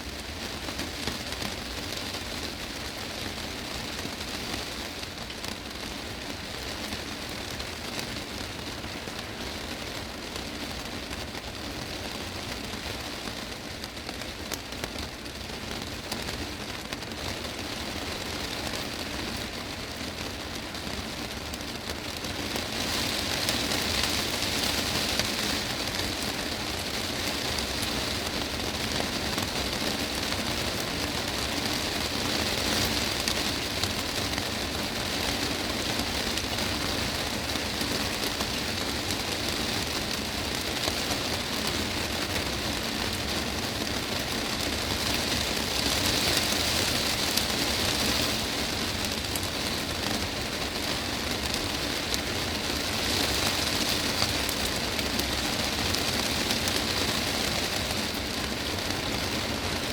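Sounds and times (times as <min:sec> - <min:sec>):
heavy rain on glass roof: 0:00.0 - 0:59.9.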